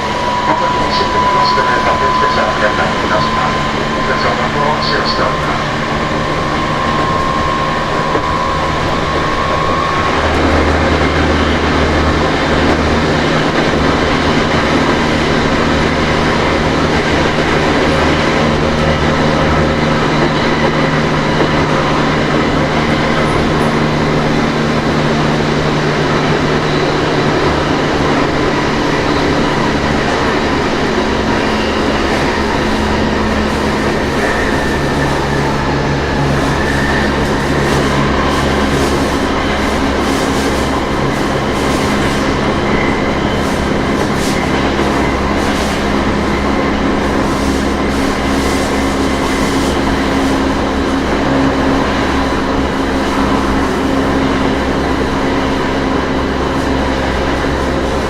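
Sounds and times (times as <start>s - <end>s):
steady high tone: 0.0s - 58.0s
subway car rolling noise: 0.0s - 58.0s.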